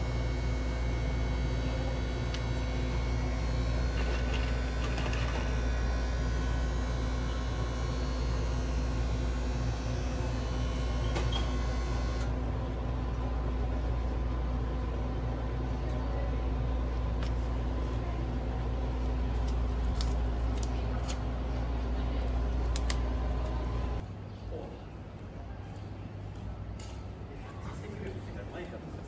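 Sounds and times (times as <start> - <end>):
kitchen equipment hum: 0.0 - 24.0.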